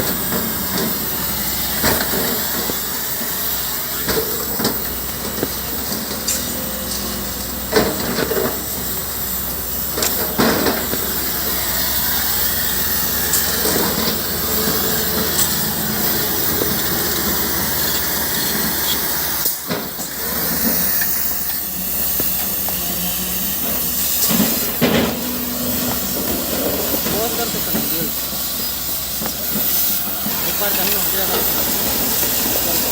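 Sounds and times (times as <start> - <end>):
diesel engine running: 0.0 - 32.9
hissing noise: 0.0 - 32.9.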